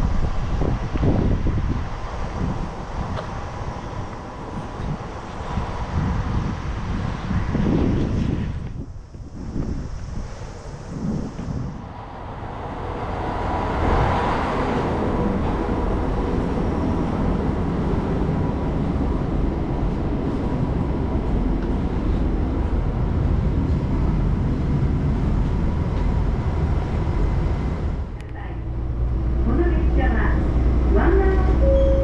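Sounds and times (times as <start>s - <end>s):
diesel railcar rumbling on rails: 0.0s - 32.0s.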